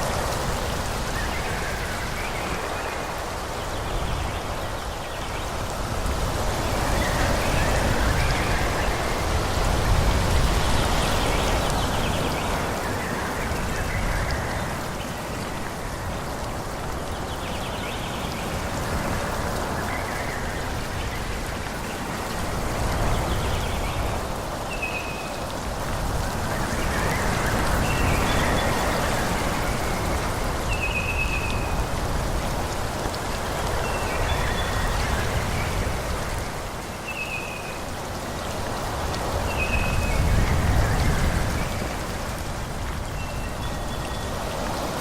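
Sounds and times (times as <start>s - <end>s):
wind blowing through trees: 0.0s - 45.0s.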